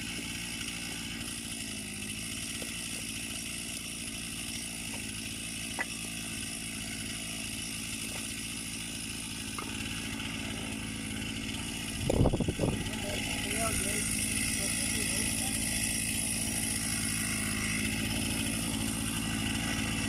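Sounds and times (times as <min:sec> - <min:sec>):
chainsaw idling: 0:00.0 - 0:20.0.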